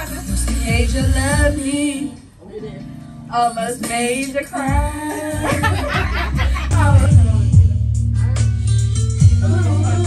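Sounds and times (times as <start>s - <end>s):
backing track with bass and kick drum: 0.0s - 2.8s, 3.6s - 10.0s.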